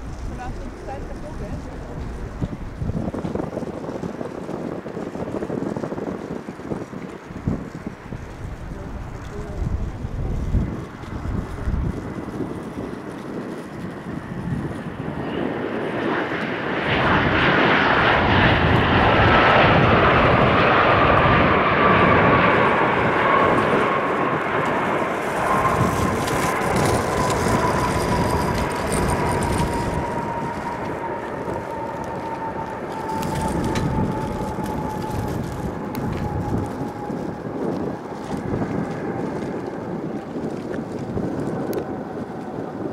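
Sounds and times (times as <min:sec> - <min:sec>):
jet engine rush: 0:00.0 - 0:42.9.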